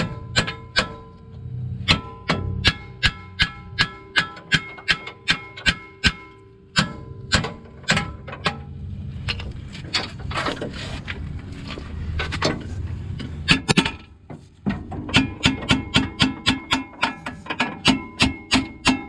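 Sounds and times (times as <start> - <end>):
metal clanks: 0.0 - 19.0
tool scraping and rattling: 1.9 - 19.0.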